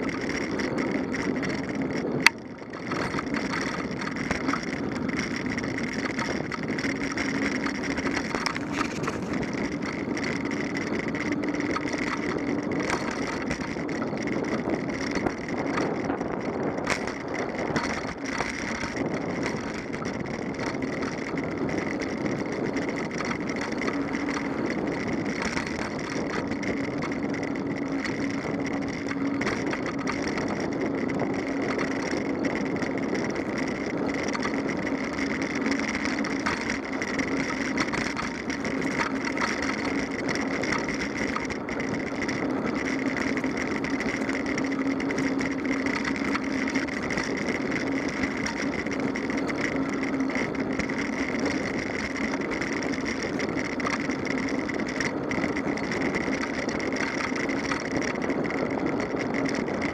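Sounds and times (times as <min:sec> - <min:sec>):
bicycle rolling on asphalt: 0:00.0 - 0:59.9
small ticks and rattles: 0:00.0 - 0:59.9.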